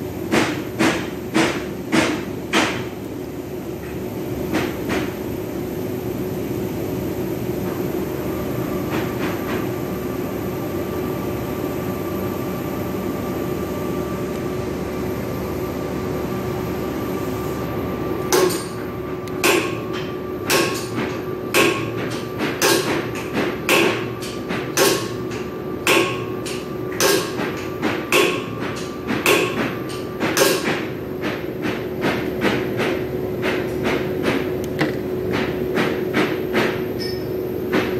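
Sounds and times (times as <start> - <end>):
machinery hum: 0.0 - 37.9.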